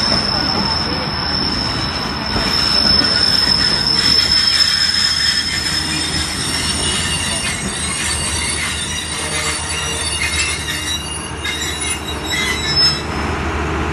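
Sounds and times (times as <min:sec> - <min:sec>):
high-pitched wheel squeal: 0:00.0 - 0:13.2
train wheels rumbling on rail: 0:00.0 - 0:13.9.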